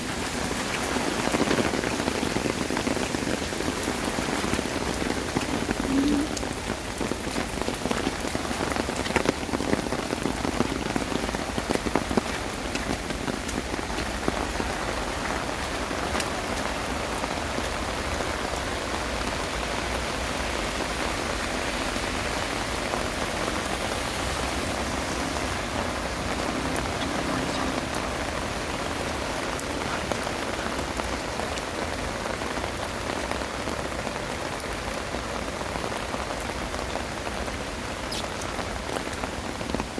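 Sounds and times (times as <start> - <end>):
raindrop hits: 0.0 - 33.5
heavy rain hiss: 0.0 - 39.9.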